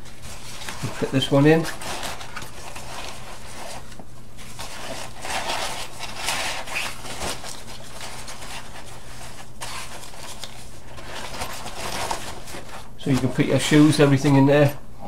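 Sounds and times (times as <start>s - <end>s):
fabric rustling and scraping: 0.0s - 14.4s.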